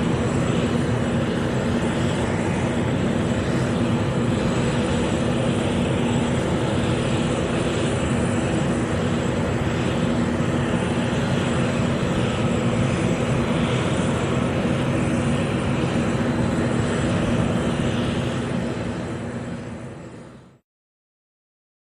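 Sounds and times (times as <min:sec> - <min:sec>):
jet engines idling: 0:00.0 - 0:20.6.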